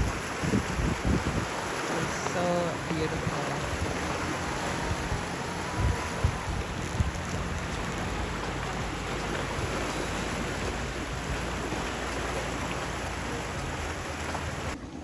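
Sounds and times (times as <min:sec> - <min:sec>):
sea water rushing: 0:00.0 - 0:15.0
wind: 0:00.0 - 0:15.0.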